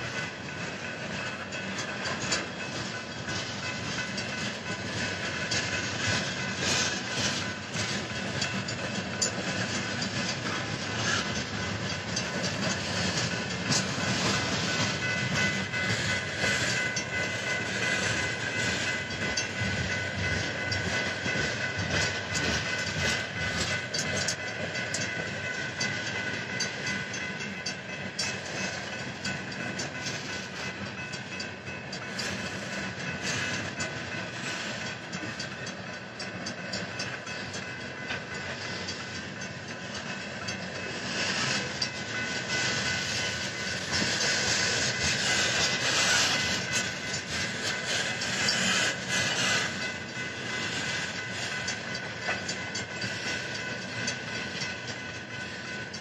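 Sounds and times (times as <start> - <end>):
crossing bells ringing: 0.0 - 56.0
freight train wheels clicking: 0.0 - 56.0.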